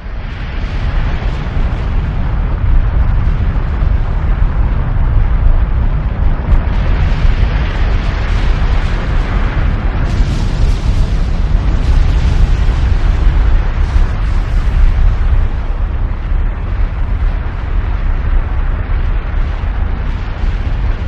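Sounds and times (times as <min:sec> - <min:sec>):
dense crackling: 0:00.0 - 0:21.0
volcanic eruption rumble: 0:00.0 - 0:21.0.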